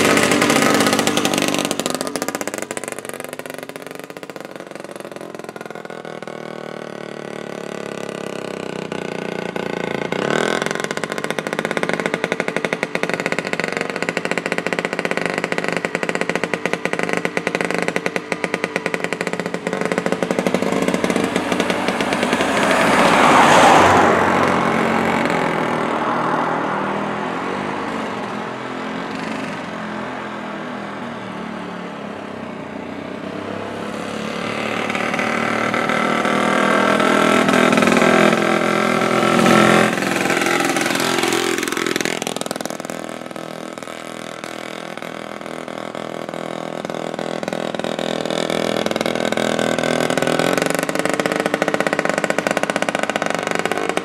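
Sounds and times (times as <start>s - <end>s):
two-stroke engine passing: 0.0s - 54.0s.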